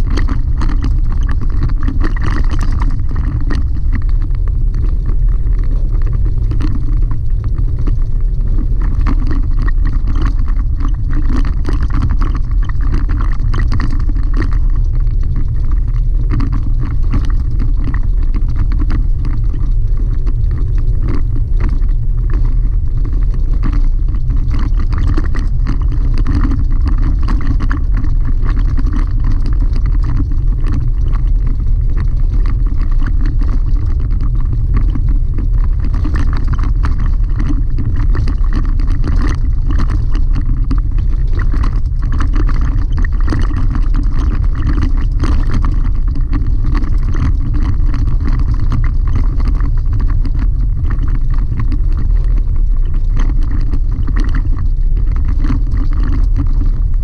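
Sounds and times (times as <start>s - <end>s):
gravel clicks: 0.0s - 57.0s.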